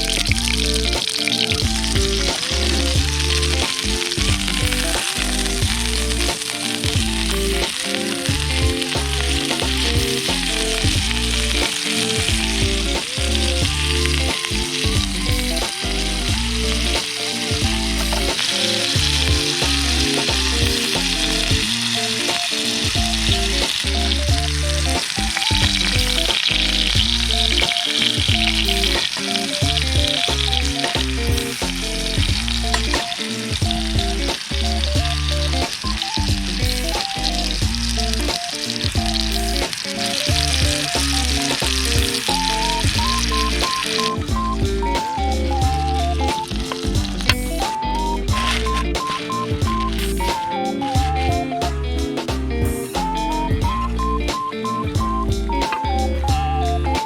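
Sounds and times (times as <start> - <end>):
food frying sizzle: 0.0 - 56.4
light background music: 0.0 - 57.0.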